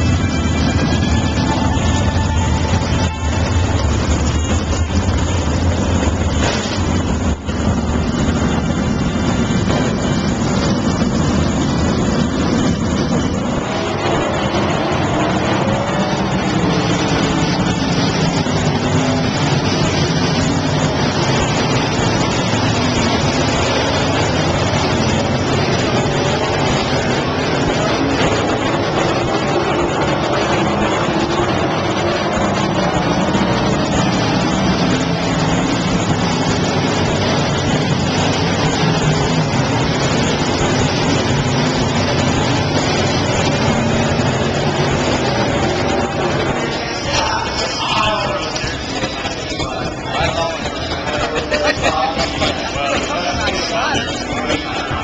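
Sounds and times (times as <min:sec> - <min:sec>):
race car engines at speed: 0:00.0 - 0:55.0.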